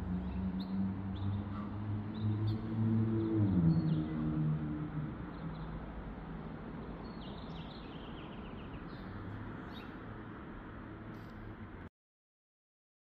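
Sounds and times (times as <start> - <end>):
outdoor background noise: 0.0 - 11.9.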